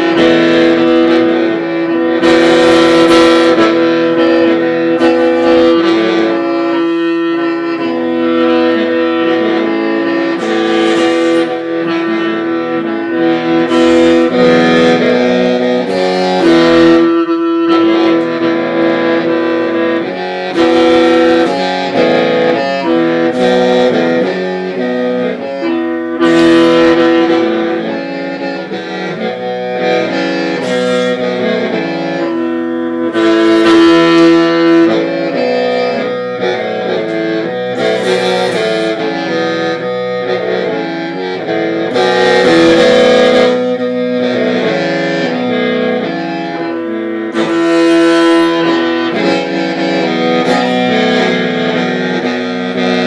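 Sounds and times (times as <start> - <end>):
bamboo mouth organ chords: 0.0 - 53.0.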